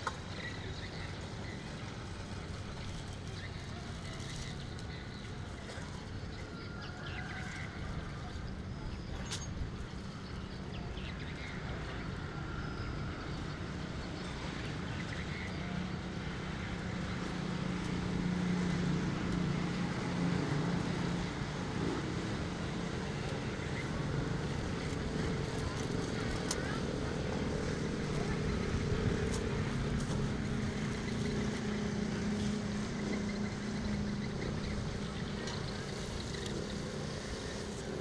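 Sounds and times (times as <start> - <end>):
engine humming: 0.0 - 38.0
outdoor background noise: 0.0 - 38.0.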